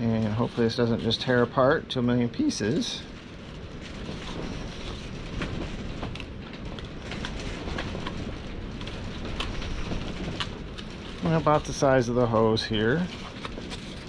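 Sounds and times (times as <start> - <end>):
rushing background noise: 0.0 - 14.0.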